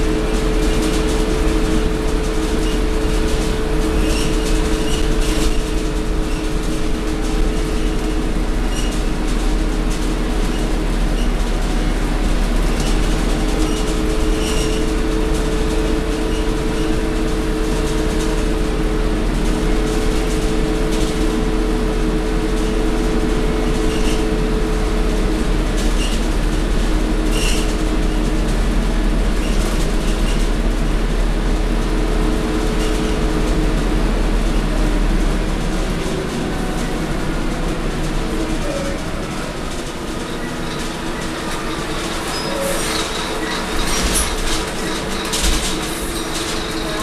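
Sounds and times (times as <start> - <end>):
bus diesel engine rumble: 0.0 - 47.0.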